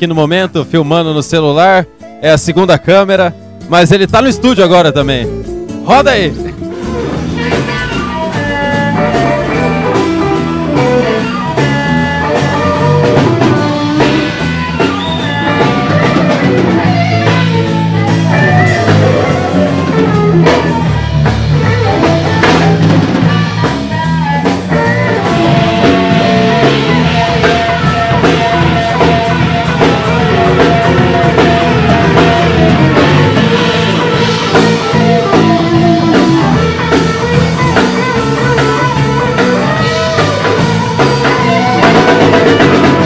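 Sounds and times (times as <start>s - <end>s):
drum kit: 0.0s - 43.0s
guitar: 0.0s - 43.0s.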